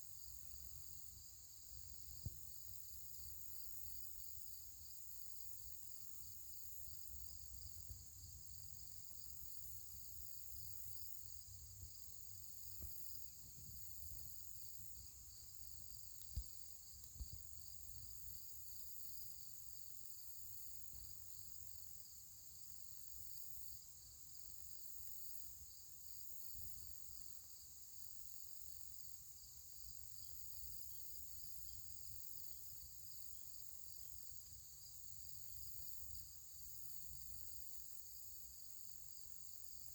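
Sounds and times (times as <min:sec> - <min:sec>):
insects chirping in a pulsing trill: 0:00.0 - 0:39.9.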